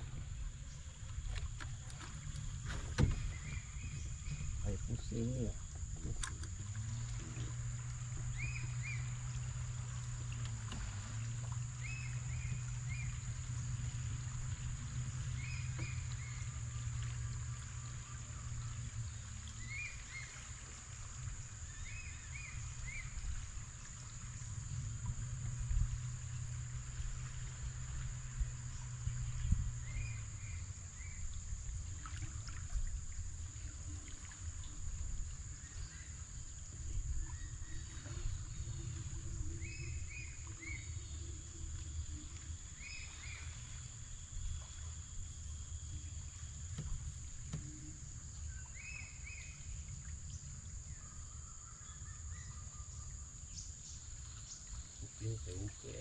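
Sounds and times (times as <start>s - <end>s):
river current and wind rumble: 0.0s - 56.0s.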